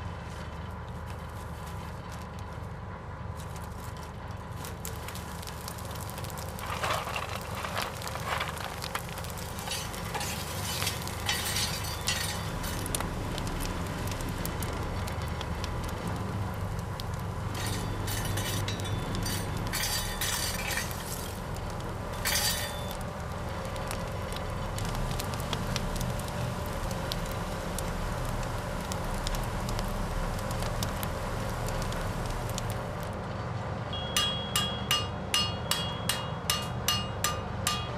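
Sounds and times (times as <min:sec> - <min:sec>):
forge fire crackling and hissing: 0:00.0 - 0:37.9
steady low hum: 0:00.0 - 0:37.9.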